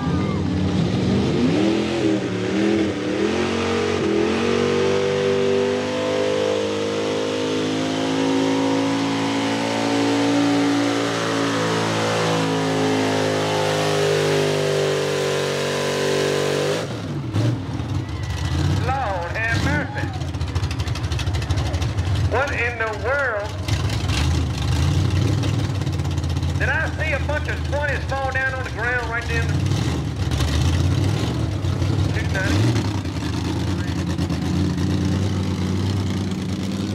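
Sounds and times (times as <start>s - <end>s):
truck engine at full throttle: 0.0s - 36.9s.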